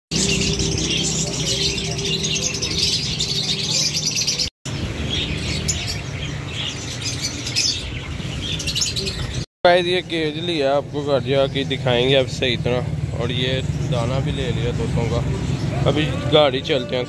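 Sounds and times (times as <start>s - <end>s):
caged birds chirping: 0.1s - 17.0s.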